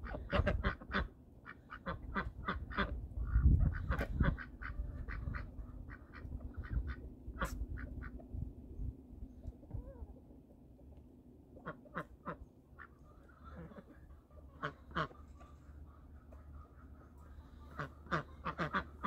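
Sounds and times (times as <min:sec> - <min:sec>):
ducks quacking: 0:00.0 - 0:08.4, 0:11.5 - 0:19.0.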